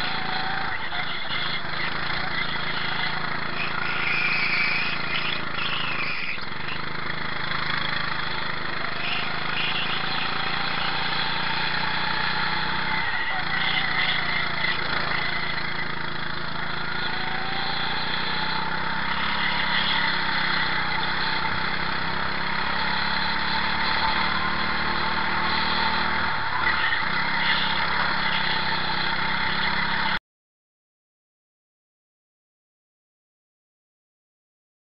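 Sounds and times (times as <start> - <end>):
go-kart engine racing: 0.0 - 30.2.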